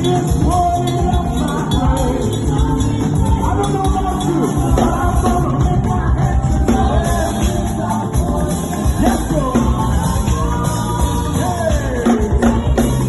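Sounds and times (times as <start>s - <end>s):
bass guitar: 0.0s - 13.0s
drums: 0.0s - 13.0s
person singing: 0.0s - 13.0s
piano: 0.0s - 13.0s.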